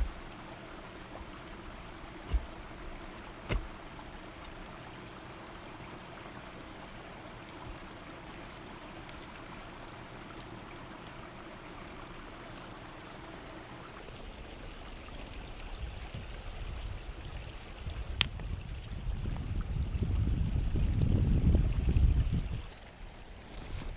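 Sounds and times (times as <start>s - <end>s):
creek water running: 0.0s - 23.9s.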